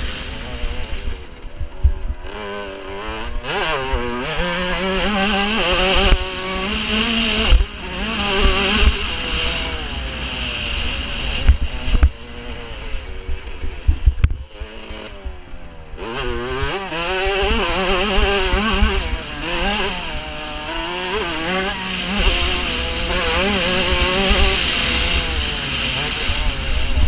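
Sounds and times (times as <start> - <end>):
motocross bike engine revving: 0.0 - 27.0.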